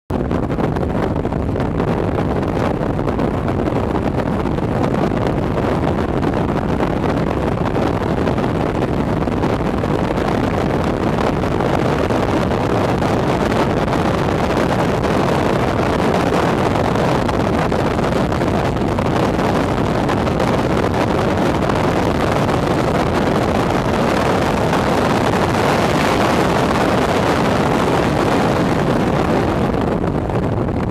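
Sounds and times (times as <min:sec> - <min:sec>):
vehicle engine at speed: 0:00.1 - 0:30.9
wind buffeting microphone: 0:00.1 - 0:30.9.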